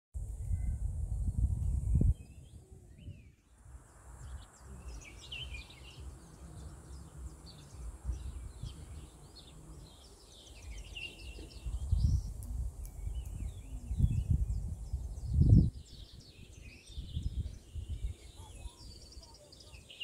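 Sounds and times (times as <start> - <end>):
wind on microphone: 0.2 - 20.0
small birds chirping: 1.8 - 20.0.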